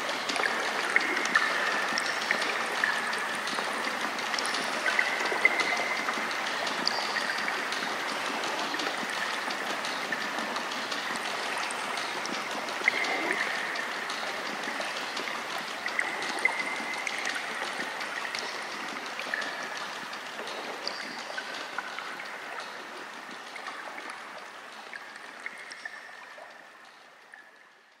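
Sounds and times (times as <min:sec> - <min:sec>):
small water plinks: 0:00.0 - 0:28.0.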